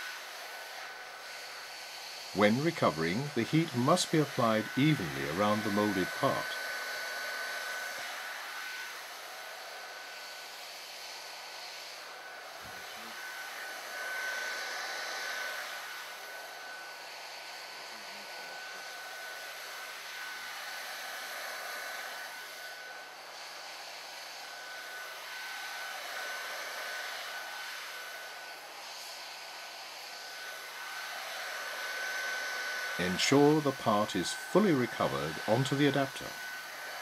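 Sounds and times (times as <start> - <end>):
heat gun blowing hot air: 0.0 - 37.0
heat gun high whine: 0.0 - 37.0.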